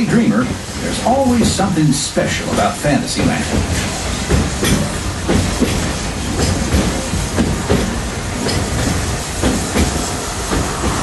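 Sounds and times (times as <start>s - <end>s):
track clicks and clacks: 0.0s - 11.0s
train wheels rumbling on rails: 0.0s - 11.0s.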